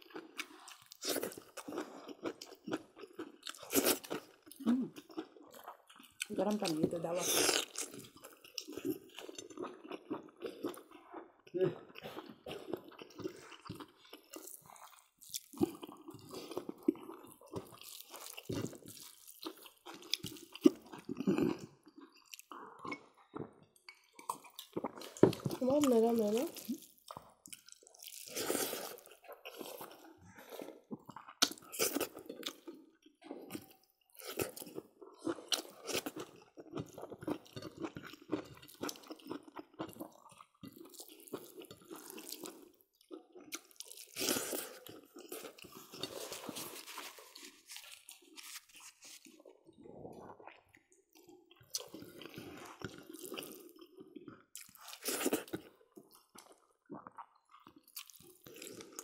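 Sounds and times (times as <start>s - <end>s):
wet chewing and crunching: 0.0s - 59.0s.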